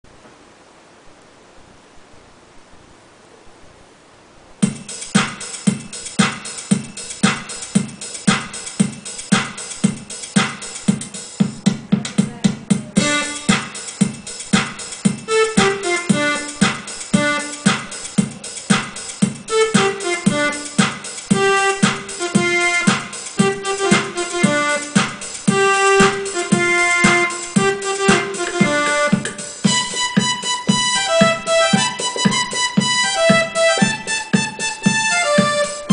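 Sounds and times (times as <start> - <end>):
drum beat: 4.6 - 35.9.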